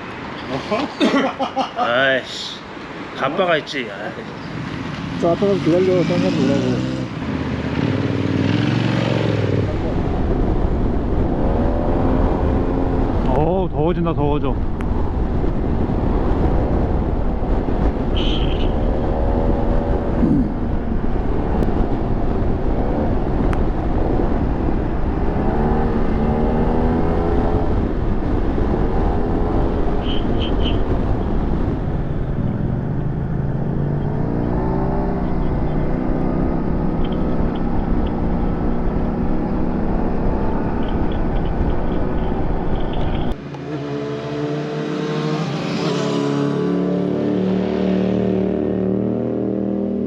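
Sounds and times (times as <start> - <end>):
wind and road noise: 0.0 - 50.0.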